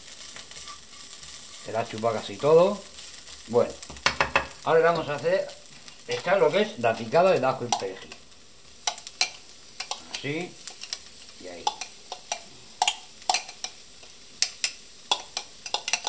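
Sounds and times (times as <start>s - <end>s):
oil sizzling: 0.0s - 16.0s
spatula scraping frying pan: 0.0s - 16.0s.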